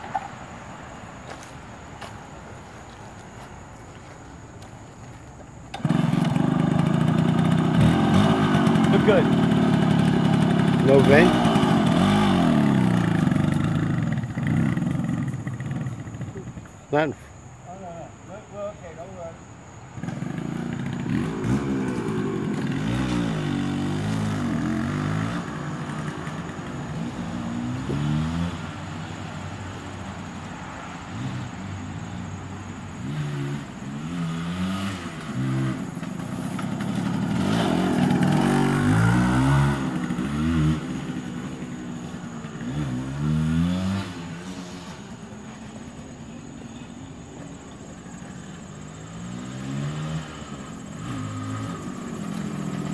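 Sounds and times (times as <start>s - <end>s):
motorcycle engine revving: 5.7s - 17.1s, 18.8s - 30.4s, 31.0s - 52.9s.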